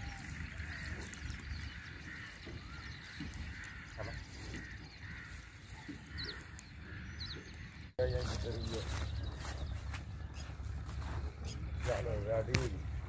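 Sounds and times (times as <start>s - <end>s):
faint bird calls: 0.0s - 13.0s.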